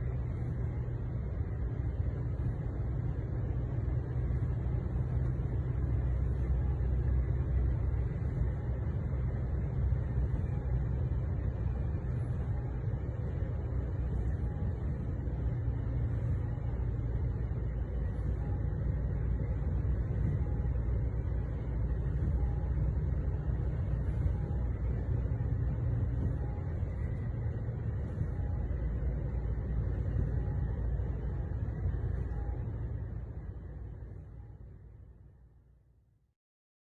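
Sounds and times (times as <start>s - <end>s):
truck engine and road rumble: 0.0s - 36.0s.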